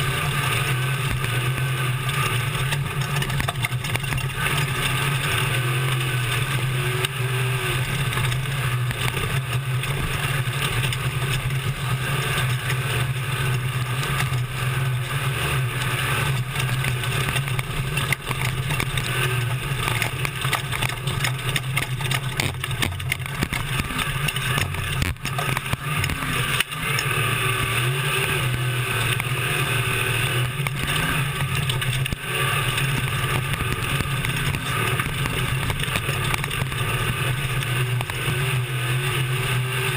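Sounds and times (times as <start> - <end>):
knocks and rattles: 0.0 - 29.6, 30.2 - 38.7
truck engine droning: 0.0 - 39.9
wind and road noise: 0.0 - 39.9.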